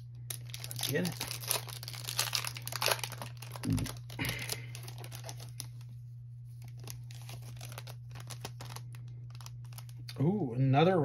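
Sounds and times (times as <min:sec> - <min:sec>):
foil wrapper crinkling: 0:00.0 - 0:05.9, 0:06.5 - 0:10.2
steady low hum: 0:00.0 - 0:11.0.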